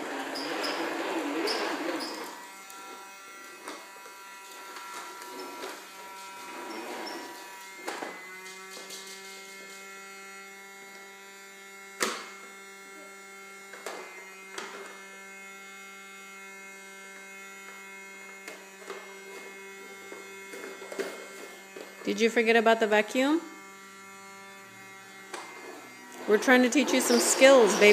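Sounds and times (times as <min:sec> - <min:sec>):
vacuum cleaner motor humming: 0:00.0 - 0:27.9.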